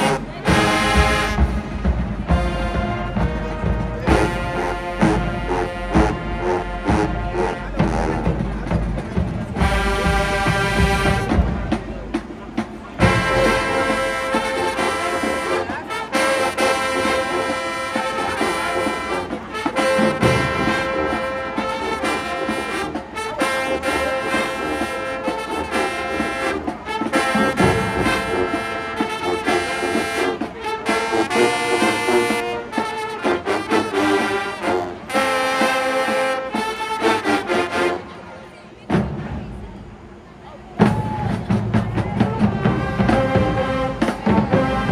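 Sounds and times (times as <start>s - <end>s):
brass section playing chords: 0.0s - 38.3s, 41.5s - 44.9s.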